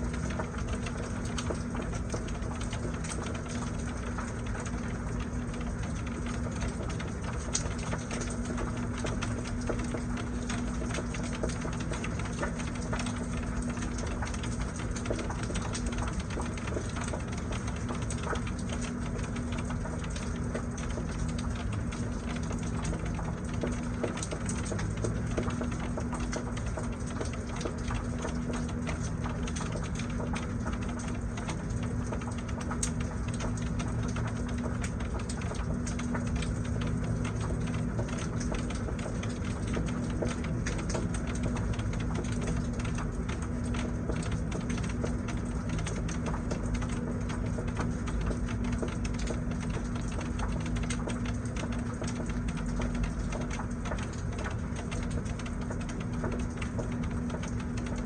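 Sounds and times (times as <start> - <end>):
constant low hum: 0.0 - 58.0
rain pattering: 0.0 - 58.0.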